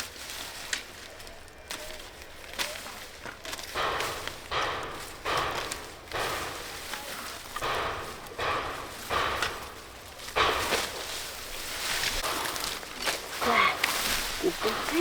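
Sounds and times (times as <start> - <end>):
scraping and rustling in soil: 0.0 - 15.0.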